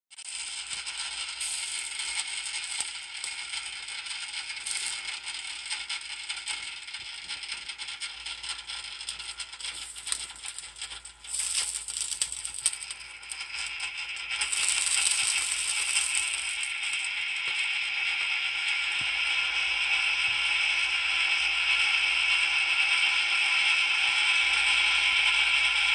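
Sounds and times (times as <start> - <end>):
drippings sizzling and popping: 0.1 - 21.4.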